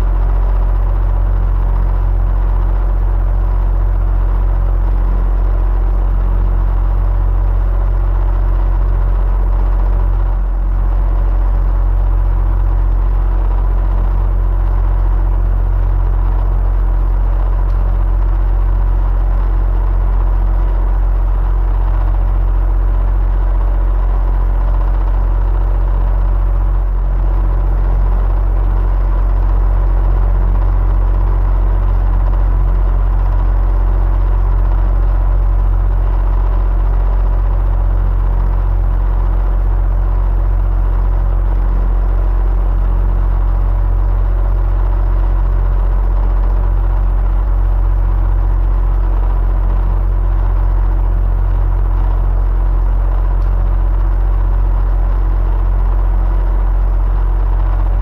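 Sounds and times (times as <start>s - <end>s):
electric fan running: 0.0s - 58.0s
motor hum: 0.0s - 58.0s.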